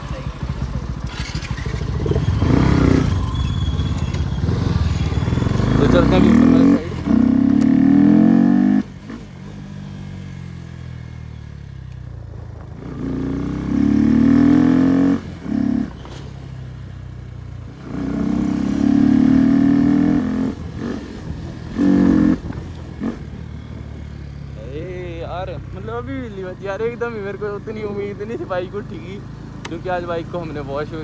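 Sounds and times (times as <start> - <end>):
motorcycle engine revving: 0.0 - 31.0
road noise: 0.0 - 31.0.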